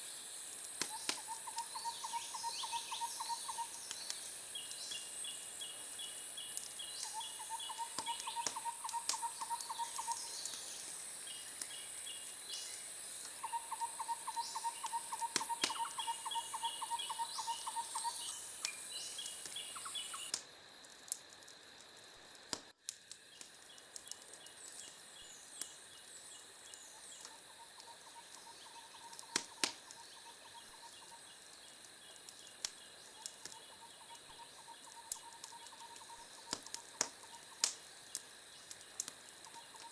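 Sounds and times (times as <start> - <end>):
high steady insect buzz: 0.0 - 39.9
insect trills and chirps: 0.0 - 39.9
wood fire crackling: 0.0 - 39.9.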